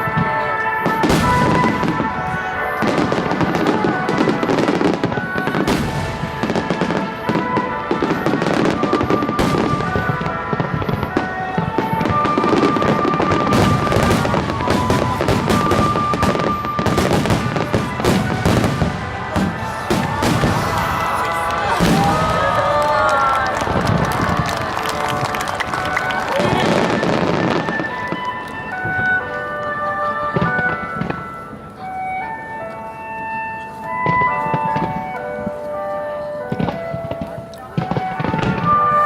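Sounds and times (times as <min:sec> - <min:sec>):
fireworks bursting and crackling: 0:00.0 - 0:39.0
music with held tones: 0:00.0 - 0:39.0.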